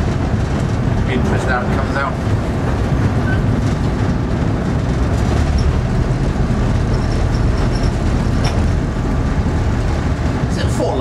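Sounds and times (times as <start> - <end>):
diesel locomotive engine running: 0.0 - 11.0
wheels rumbling on track: 0.0 - 11.0.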